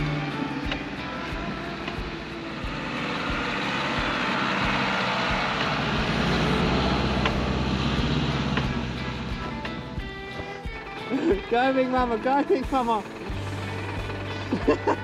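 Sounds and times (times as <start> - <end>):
diesel truck engine working hard: 0.0 - 15.0.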